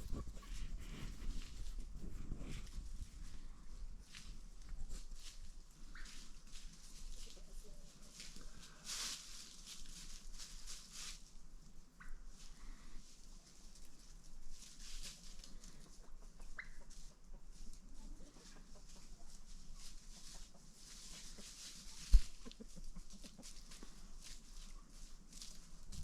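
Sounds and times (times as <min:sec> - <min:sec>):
chickens clucking softly: 0:00.0 - 0:08.8, 0:13.3 - 0:26.0
scratching and rustling: 0:00.0 - 0:11.4, 0:13.0 - 0:26.0.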